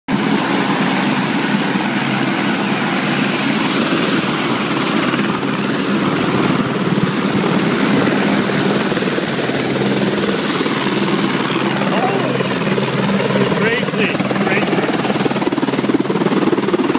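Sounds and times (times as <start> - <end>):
helicopter rotor and engine drone: 0.1 - 16.9.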